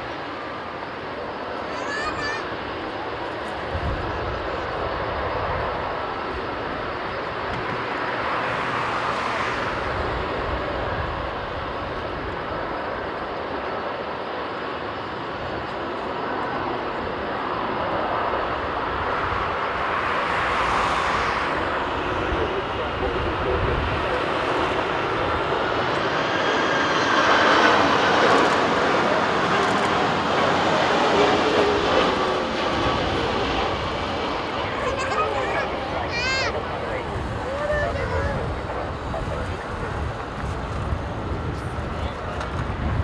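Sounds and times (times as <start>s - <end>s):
jet engines roaring: 0.0s - 43.0s
wind rumbling on microphone: 3.3s - 13.8s, 15.2s - 43.0s.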